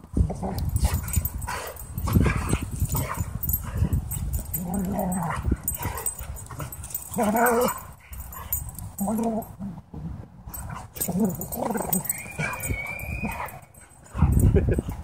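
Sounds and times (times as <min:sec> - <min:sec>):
dogs growling and yipping: 0:00.2 - 0:15.0.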